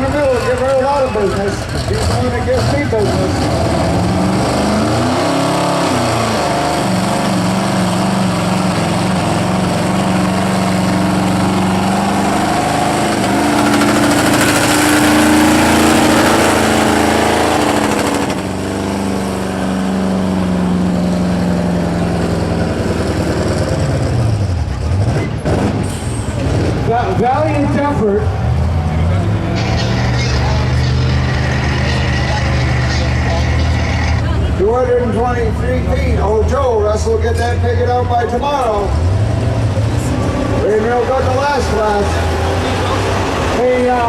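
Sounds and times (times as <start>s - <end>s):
truck engine revving hard: 0.0s - 44.0s.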